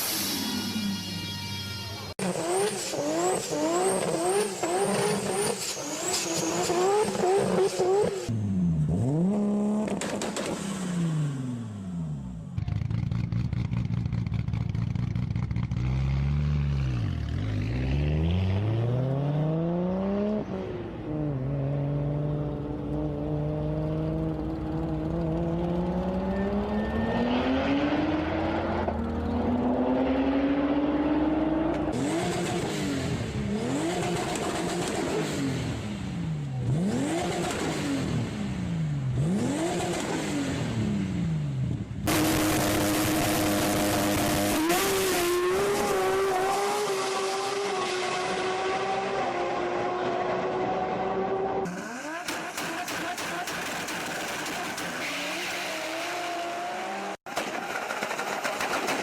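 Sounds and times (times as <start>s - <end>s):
car engine revving: 2.2s - 59.0s.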